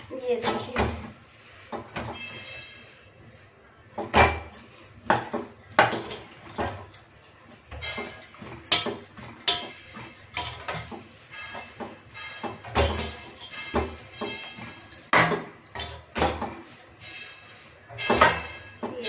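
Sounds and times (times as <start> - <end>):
dough kneaded in steel plate: 0.0 - 19.0.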